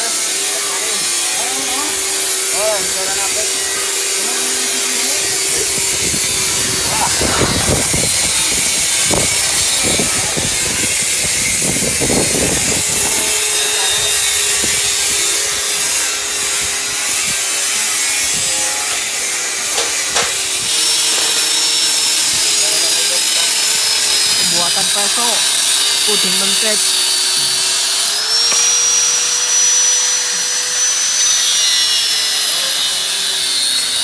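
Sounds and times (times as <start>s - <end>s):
power tool working on metal: 0.0s - 34.0s.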